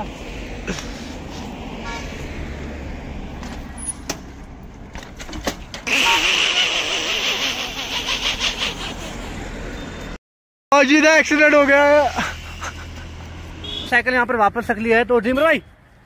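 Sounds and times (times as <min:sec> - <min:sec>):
traffic rumble: 0:00.0 - 0:10.2, 0:10.8 - 0:16.0.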